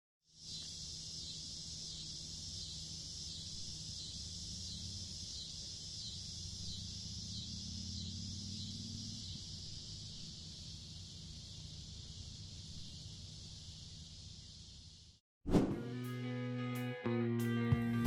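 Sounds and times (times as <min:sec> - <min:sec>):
insects buzzing: 0:00.3 - 0:15.2.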